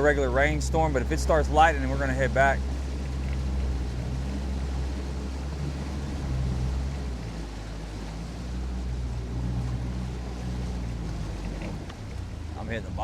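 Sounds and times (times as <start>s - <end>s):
outboard boat motor running: 0.0s - 13.0s.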